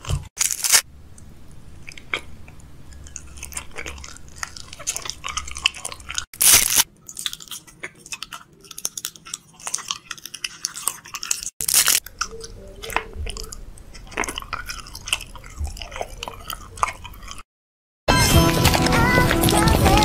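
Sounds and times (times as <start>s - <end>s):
person chewing crunchy food: 0.0s - 17.5s, 18.1s - 20.0s.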